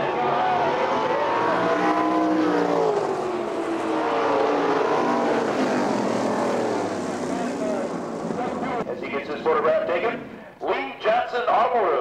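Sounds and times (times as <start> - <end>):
race car engines passing: 0.0 - 10.4.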